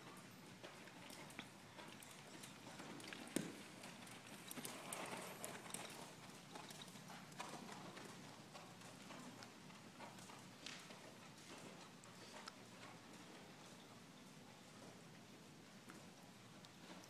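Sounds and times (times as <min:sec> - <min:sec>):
hoofbeats on soft dirt: 0:00.0 - 0:17.0.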